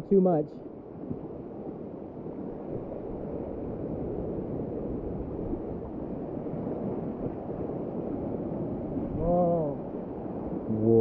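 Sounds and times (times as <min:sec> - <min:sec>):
surf washing over rocks: 0:00.1 - 0:11.0.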